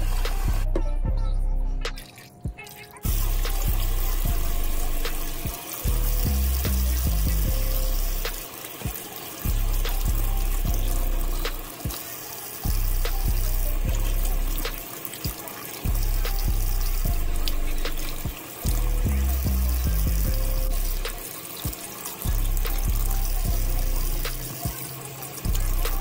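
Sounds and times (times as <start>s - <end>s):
background music with deep bass: 0.0s - 26.0s
faucet running into steel sink: 2.0s - 26.0s
hands rinsing under water: 2.0s - 26.0s.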